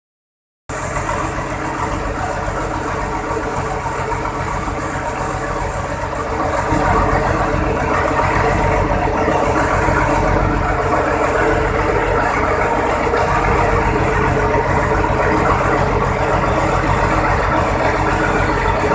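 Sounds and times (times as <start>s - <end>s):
marine diesel engine running: 0.7s - 18.9s.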